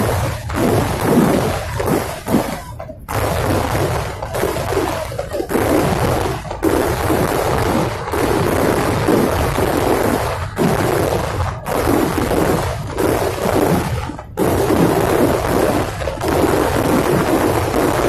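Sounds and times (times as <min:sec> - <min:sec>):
firecrackers exploding: 0:00.0 - 0:18.0.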